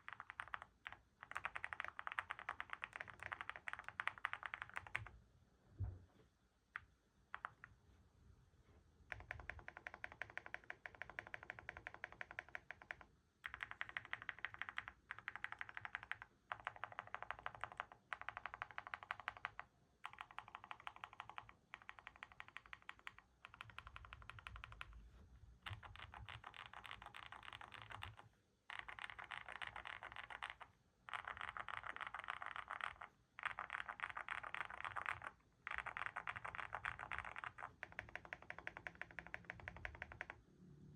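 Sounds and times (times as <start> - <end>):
rapid typing on mechanical keyboard: 0.0 - 5.1, 9.1 - 25.0, 25.6 - 40.4.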